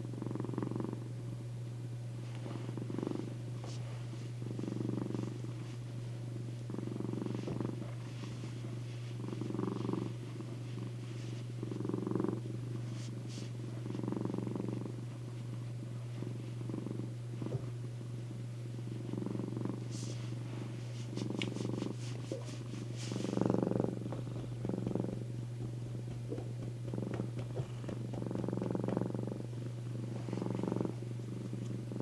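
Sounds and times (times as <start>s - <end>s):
cat purring: 0.0s - 1.2s, 2.2s - 32.0s
steady low hum: 0.0s - 32.0s.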